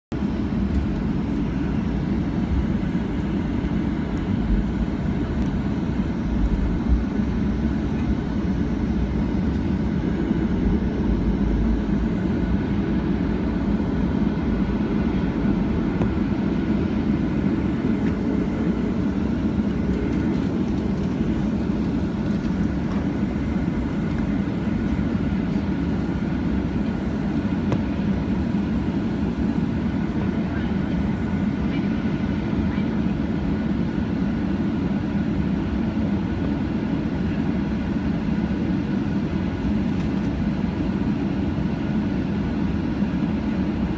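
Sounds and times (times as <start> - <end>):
faint engine whine: 0.1 - 43.9
jet engines low rumble: 0.1 - 43.9.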